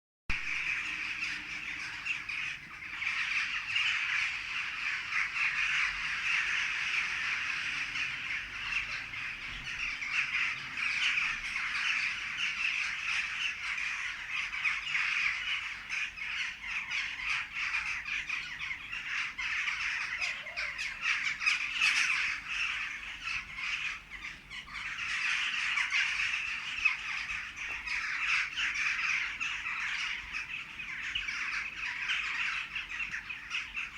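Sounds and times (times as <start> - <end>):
birds chirping: 0.3 - 33.9.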